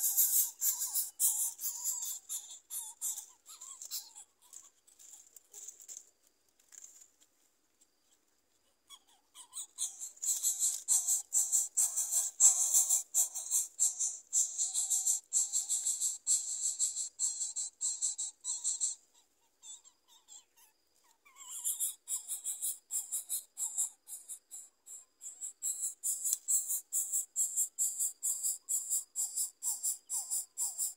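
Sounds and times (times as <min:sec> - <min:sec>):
nestlings begging with high chirps: 0:00.0 - 0:05.3, 0:09.0 - 0:20.7, 0:21.3 - 0:30.9.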